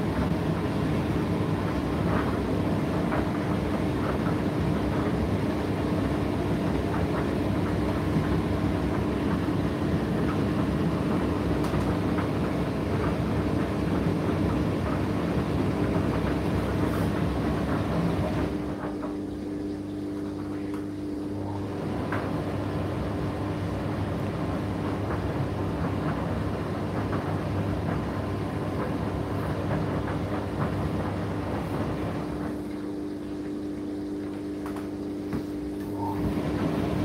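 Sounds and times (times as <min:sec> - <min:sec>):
tumble dryer motor hum: 0:00.0 - 0:37.0.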